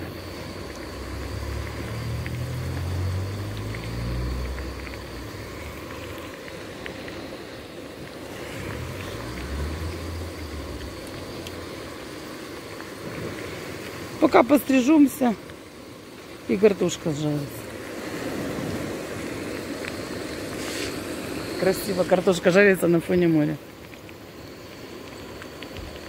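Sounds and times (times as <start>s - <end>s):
waves rushing: 0.0s - 23.7s
wind: 0.0s - 26.0s.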